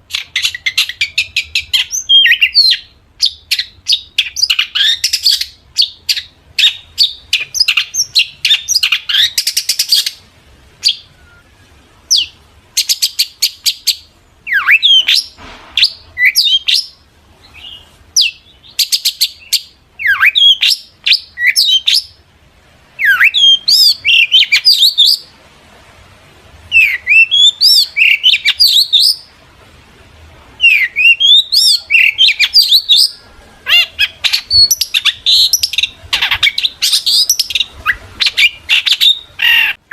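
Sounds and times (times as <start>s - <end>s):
bird singing chattering and whistling: 0.1s - 10.2s, 10.8s - 22.2s, 23.0s - 25.2s, 26.7s - 29.3s, 30.6s - 39.8s.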